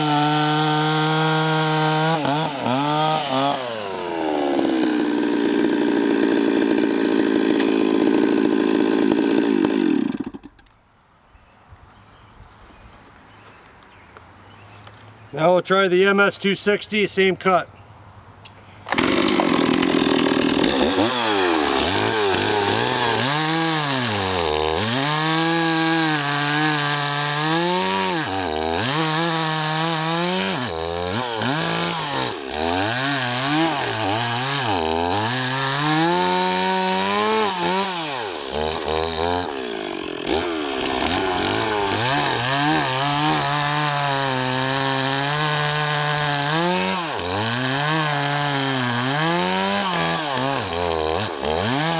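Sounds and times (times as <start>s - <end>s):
chainsaw cutting log: 0.0s - 10.7s, 18.9s - 51.9s.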